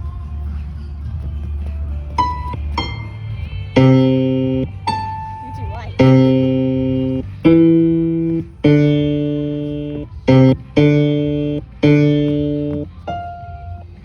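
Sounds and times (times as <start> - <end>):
electronic piano mat tones: 2.2 - 14.0.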